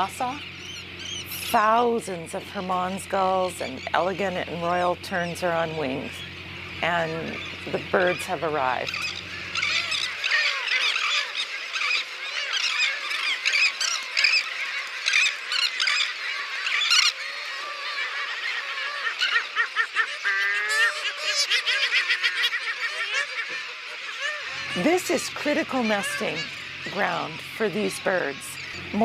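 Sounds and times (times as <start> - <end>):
gulls and terns calling: 0.0 - 29.0.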